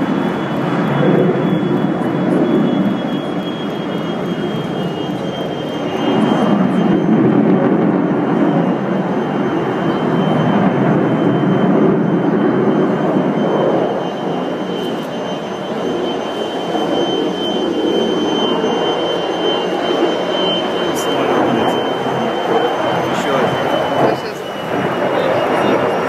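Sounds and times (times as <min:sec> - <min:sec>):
high whine: 0:00.0 - 0:26.0
jet engine roar: 0:00.0 - 0:26.0.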